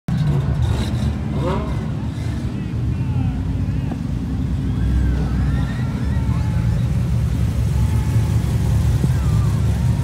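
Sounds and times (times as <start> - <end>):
car engines driving past slowly: 0.1 - 10.0.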